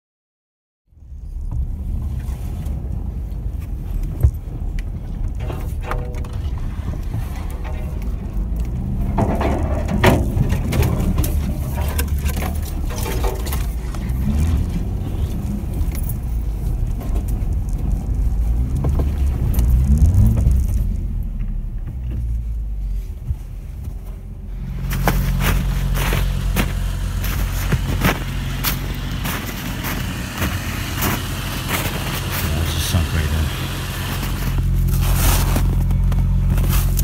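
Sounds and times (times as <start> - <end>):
rattling and clunking: 3.4 - 37.0
car engine revving: 5.3 - 23.4, 24.0 - 37.0.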